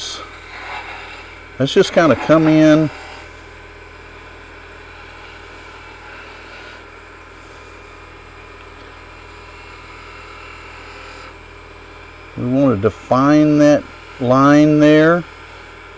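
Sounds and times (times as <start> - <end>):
gouge cutting spinning wood: 0.0 - 11.6, 12.2 - 15.9
lathe motor humming: 0.0 - 15.9.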